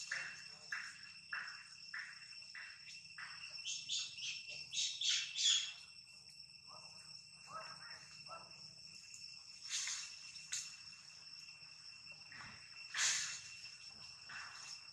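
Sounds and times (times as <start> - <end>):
insect chorus: 0.0 - 14.9.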